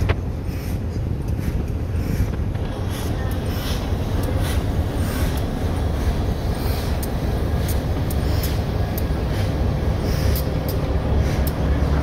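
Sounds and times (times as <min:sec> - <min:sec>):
diesel engine low rumble: 0:00.0 - 0:12.0
wheels clicking and knocking: 0:00.0 - 0:12.0.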